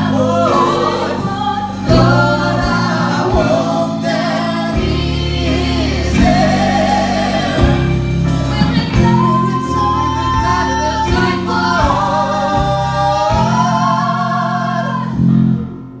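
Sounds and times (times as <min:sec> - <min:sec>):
instrumental accompaniment: 0:00.0 - 0:16.0
voices singing in harmony: 0:00.0 - 0:16.0.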